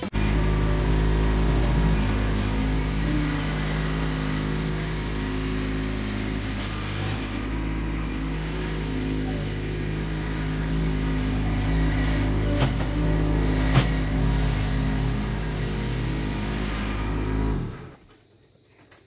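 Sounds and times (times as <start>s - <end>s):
tractor diesel engine running: 0.0s - 18.1s.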